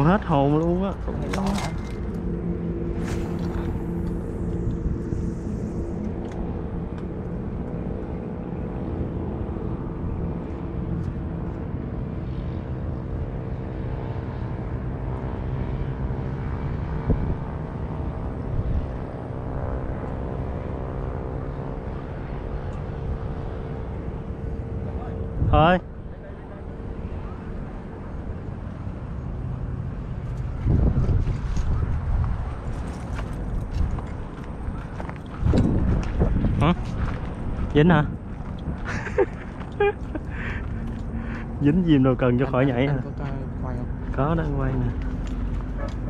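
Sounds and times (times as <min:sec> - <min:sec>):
engine drone: 0:00.0 - 0:46.0.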